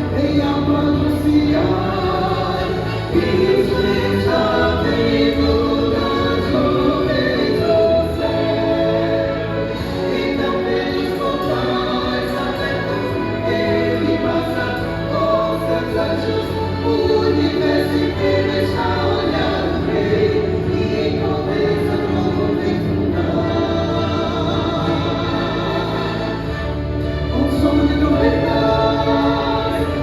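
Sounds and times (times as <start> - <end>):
choir singing a hymn in harmony: 0.0 - 30.0
instrumental accompaniment: 0.0 - 30.0.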